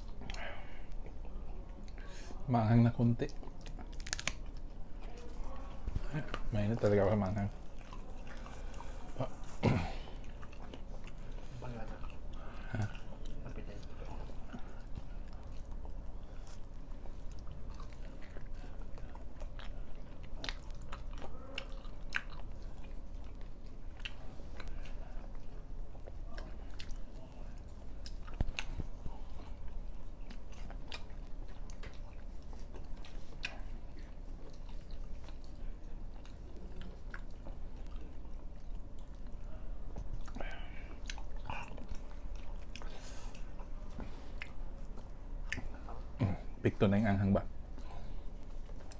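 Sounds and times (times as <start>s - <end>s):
person chewing flatbread: 0.0s - 2.5s, 3.3s - 46.6s, 47.5s - 48.9s.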